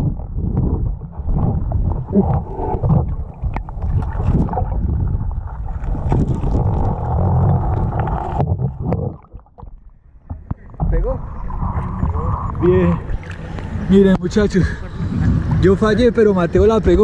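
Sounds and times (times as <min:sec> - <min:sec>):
muffled underwater rushing: 0:00.0 - 0:17.0.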